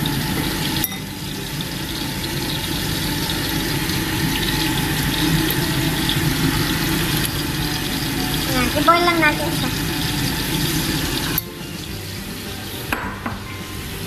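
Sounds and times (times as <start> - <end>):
fish frying in oil: 0.0 - 14.0
water boiling in saucepan: 0.0 - 14.0.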